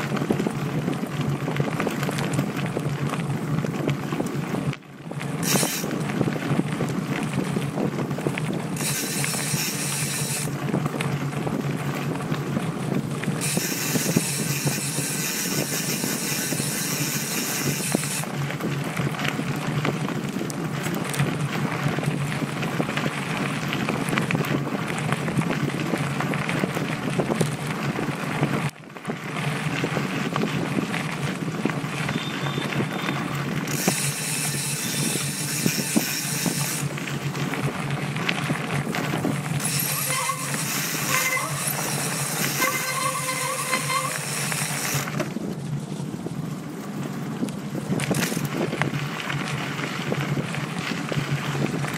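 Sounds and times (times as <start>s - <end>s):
bike rattling over bumps: 0.0s - 51.9s
bike tyres crunching on gravel: 0.0s - 51.9s
wind noise on microphone: 0.0s - 51.9s.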